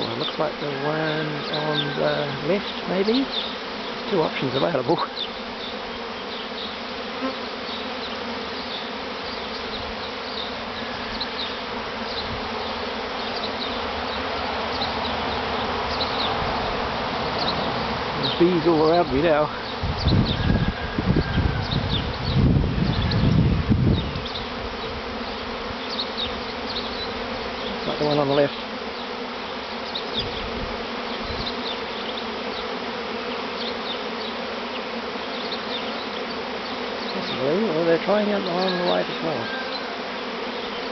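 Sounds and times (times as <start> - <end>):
honeybee swarm buzzing: 0.0 - 40.9.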